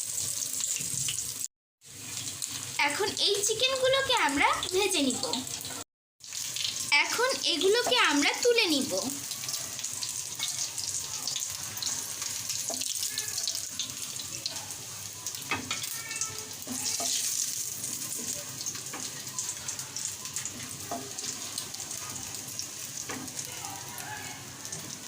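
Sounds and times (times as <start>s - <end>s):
chicken sizzling in frying oil: 0.0s - 25.0s.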